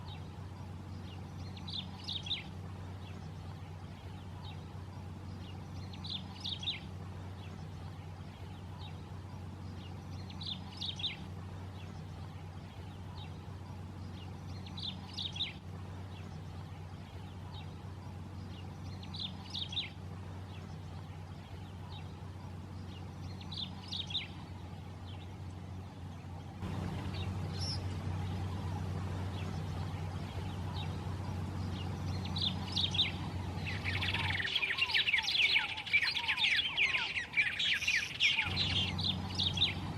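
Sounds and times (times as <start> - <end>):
bird singing: 0.0 - 39.9
steady low hum: 0.0 - 39.9.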